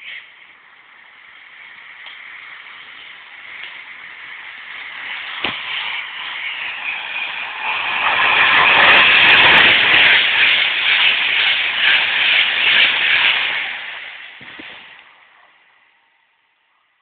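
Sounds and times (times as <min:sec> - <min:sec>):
high-speed train rushing past: 0:00.0 - 0:16.0.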